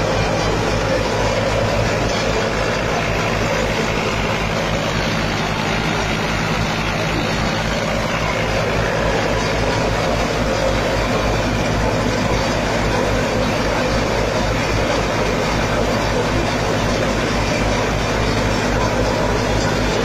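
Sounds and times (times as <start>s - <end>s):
engine droning: 0.0s - 20.0s
straw churning through thresher: 0.0s - 20.0s.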